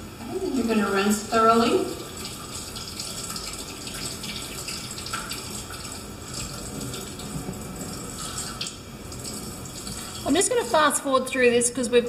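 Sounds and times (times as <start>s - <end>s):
tap water running over hands: 0.5s - 10.8s.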